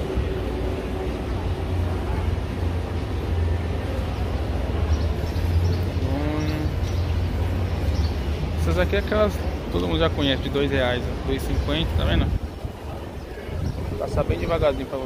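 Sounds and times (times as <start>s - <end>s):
faint background voices: 0.0s - 15.0s.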